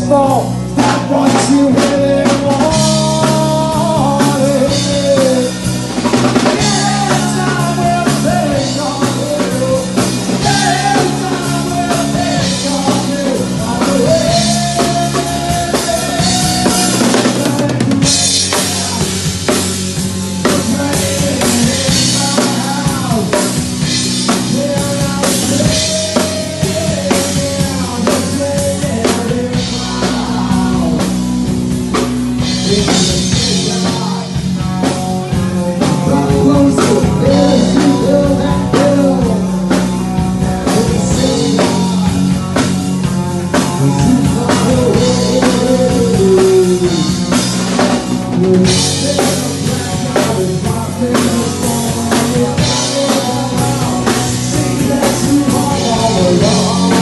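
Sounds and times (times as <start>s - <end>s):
drum kit: 0.0s - 57.0s
electric bass: 0.0s - 57.0s
melodic lead line: 0.0s - 57.0s.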